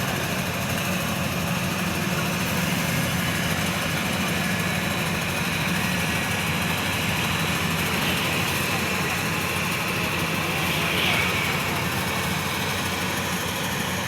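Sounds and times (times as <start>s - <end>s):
combine harvester engine humming: 0.0s - 14.0s.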